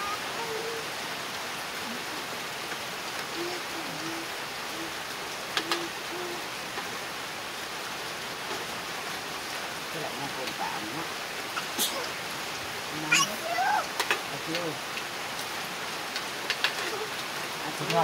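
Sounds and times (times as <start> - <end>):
light rain hissing: 0.0 - 18.0.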